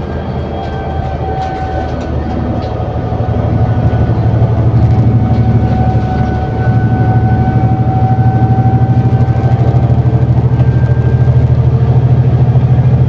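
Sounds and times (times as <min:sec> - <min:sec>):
bus engine pulling hard: 0:00.0 - 0:13.0
drivetrain whine: 0:00.0 - 0:13.0.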